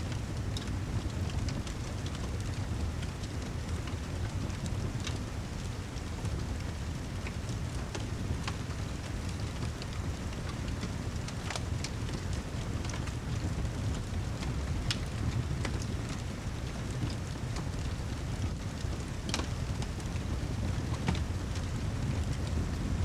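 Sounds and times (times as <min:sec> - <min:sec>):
steady rain: 0:00.0 - 0:23.0
wood fire crackling and popping: 0:00.1 - 0:23.0.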